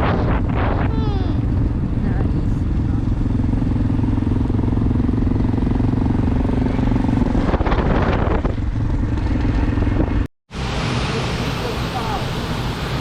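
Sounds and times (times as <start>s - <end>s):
rush of noise: 0.0s - 13.0s
vehicle engine running: 0.0s - 13.0s.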